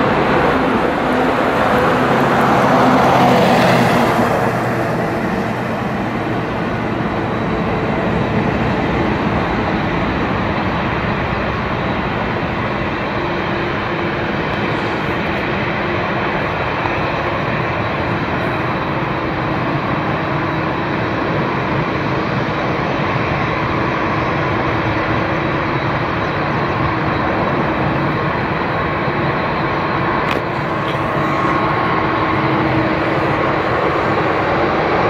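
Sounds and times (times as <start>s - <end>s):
jet engine roar: 0.0s - 35.0s.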